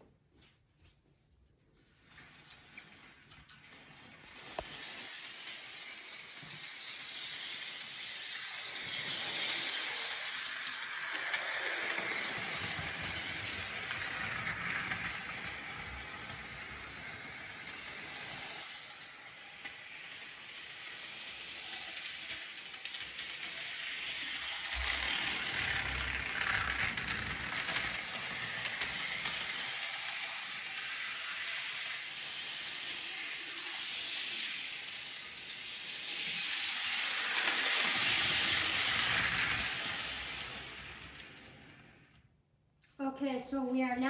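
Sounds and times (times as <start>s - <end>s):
wheels clicking on rails: 1.9s - 42.1s
model train motor whirring: 2.1s - 42.1s.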